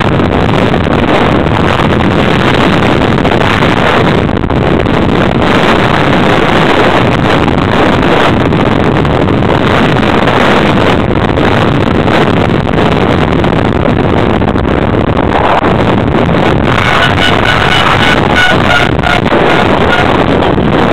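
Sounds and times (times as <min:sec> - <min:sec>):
racing vehicle rumble: 0:00.0 - 0:20.9
wind buffeting microphone: 0:00.0 - 0:20.9.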